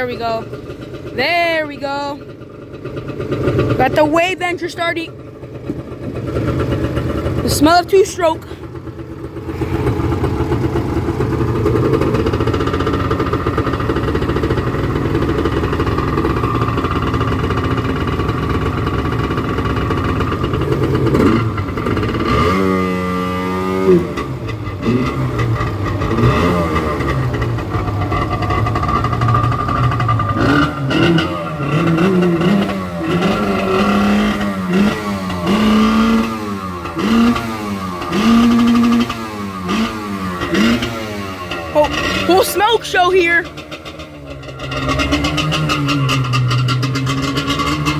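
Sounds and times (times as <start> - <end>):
jet ski engine revving: 2.8 - 47.9.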